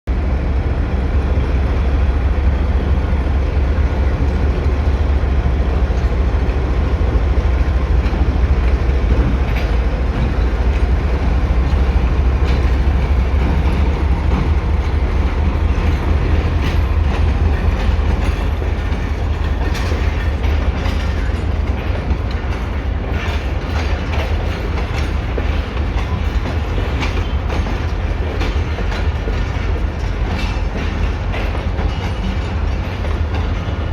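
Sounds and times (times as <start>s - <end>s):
diesel locomotive engine rumble: 0.0s - 33.9s.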